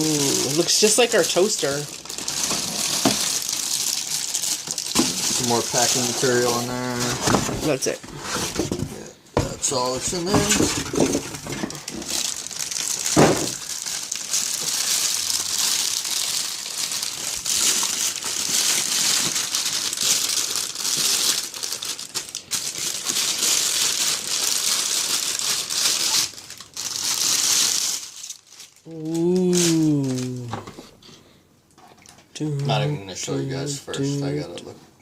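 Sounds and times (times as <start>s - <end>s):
packing material crinkling: 0.0s - 8.8s, 9.4s - 30.6s.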